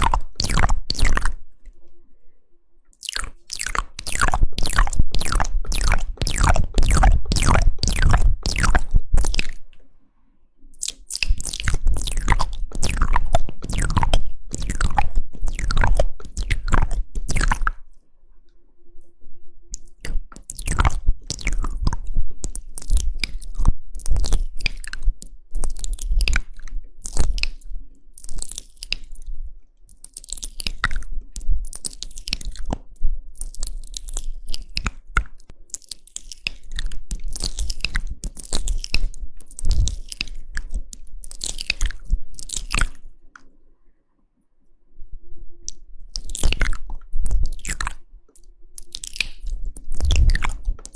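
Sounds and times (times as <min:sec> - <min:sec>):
wet mouth clicks and smacks: 0:00.0 - 0:01.4, 0:03.0 - 0:09.8, 0:10.8 - 0:18.0, 0:19.7 - 0:43.6, 0:45.7 - 0:50.9.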